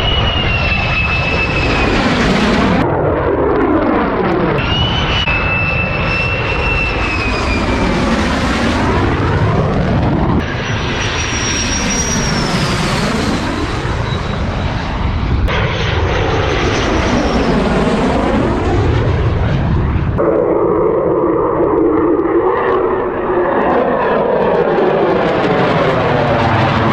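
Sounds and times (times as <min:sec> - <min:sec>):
fighter jet flying past: 0:00.0 - 0:26.9.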